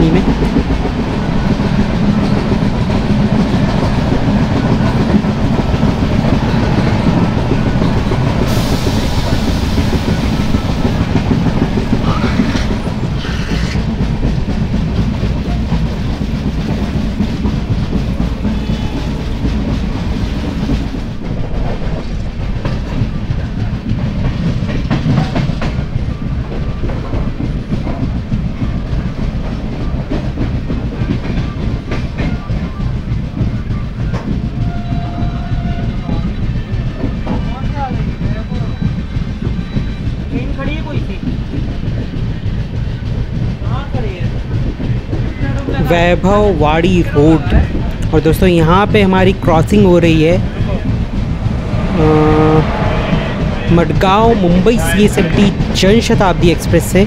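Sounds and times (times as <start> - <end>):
train rumbling: 0.0 - 57.0
wheels clickety-clack over rails: 0.0 - 57.0.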